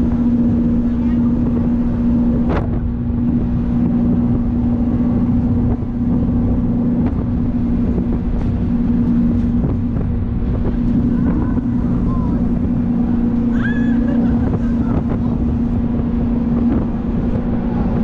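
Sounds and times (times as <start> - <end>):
boat engines droning: 0.0 - 18.0
wind on microphone: 0.0 - 18.0.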